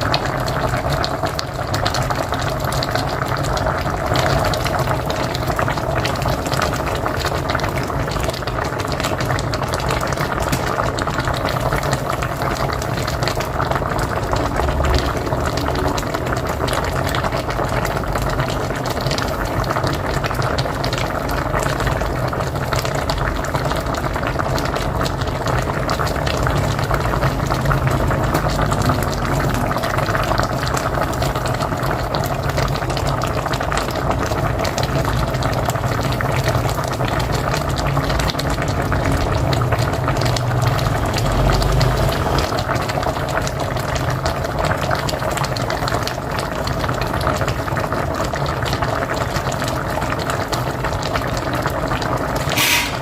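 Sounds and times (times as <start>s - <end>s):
broth boiling and bubbling: 0.0s - 53.0s.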